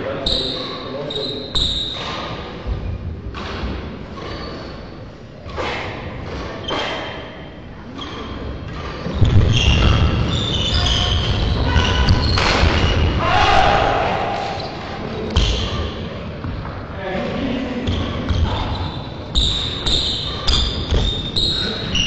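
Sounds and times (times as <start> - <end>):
shoes squeaking on court floor: 0.2 - 13.1, 14.5 - 16.6, 17.8 - 22.0.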